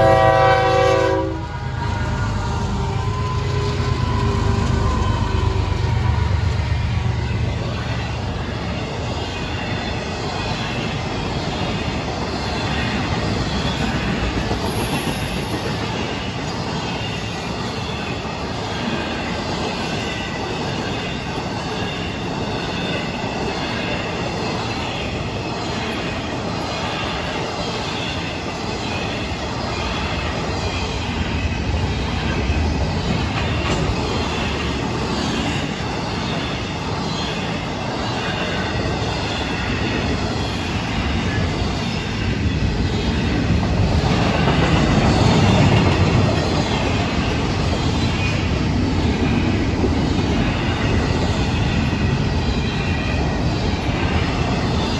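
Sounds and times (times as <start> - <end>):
freight train wheels rumbling: 0.0 - 54.9.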